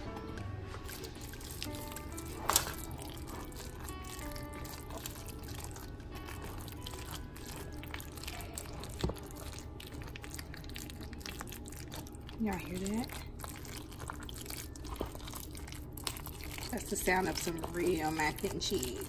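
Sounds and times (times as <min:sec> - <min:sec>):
faint music: 0:00.0 - 0:19.0
spoon stirring macaroni and cheese: 0:00.0 - 0:19.0.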